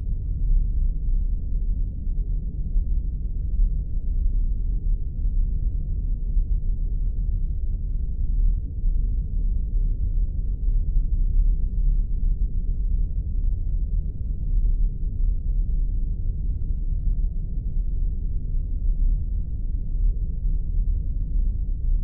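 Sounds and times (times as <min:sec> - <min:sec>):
deep engine-like rumble: 0:00.0 - 0:22.0.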